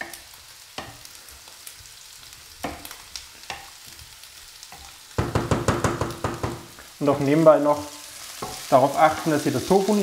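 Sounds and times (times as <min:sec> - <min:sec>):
light sizzling hiss: 0:00.0 - 0:05.3, 0:06.1 - 0:10.0.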